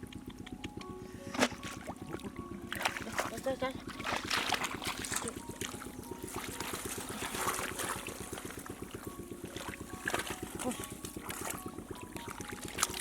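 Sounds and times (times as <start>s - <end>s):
fast low pulsing: 0.0s - 13.0s
water splashing and trickling: 1.3s - 13.0s.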